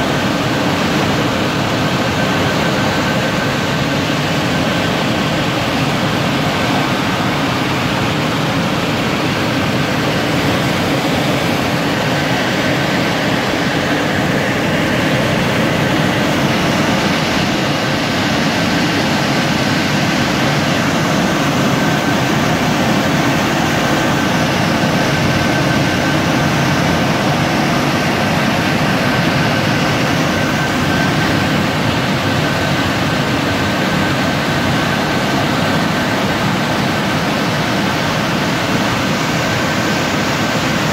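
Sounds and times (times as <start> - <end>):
dryer blowers rushing air: 0.0 - 40.9
faint steady whine: 0.0 - 40.9.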